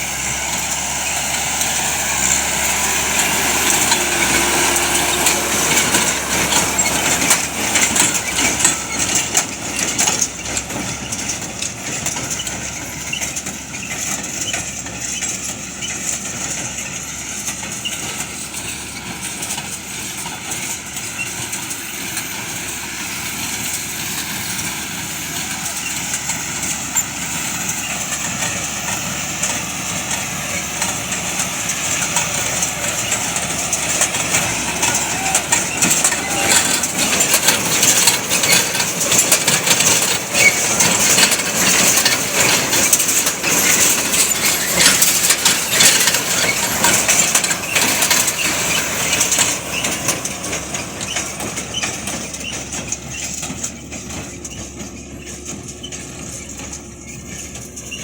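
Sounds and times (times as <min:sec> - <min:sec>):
baler crunching and clattering: 0:00.0 - 0:58.0.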